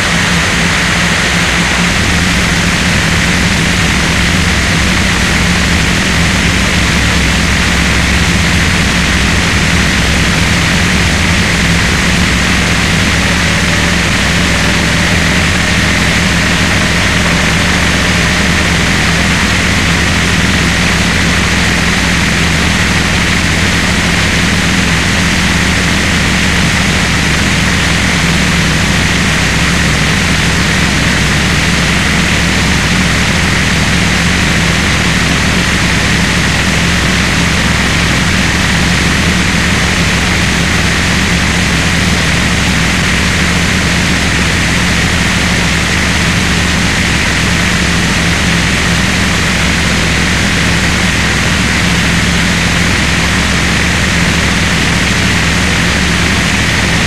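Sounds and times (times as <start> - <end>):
harsh distorted electronic noise music: 0.0 - 57.0.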